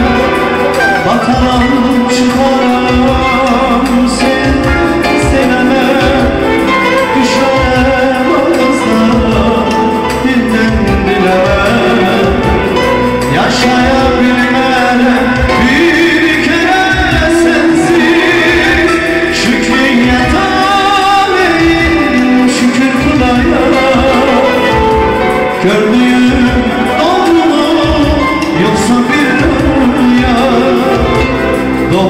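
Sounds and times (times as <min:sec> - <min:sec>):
band playing instrumental melody: 0:00.0 - 0:32.0
steady drum beat: 0:00.0 - 0:32.0.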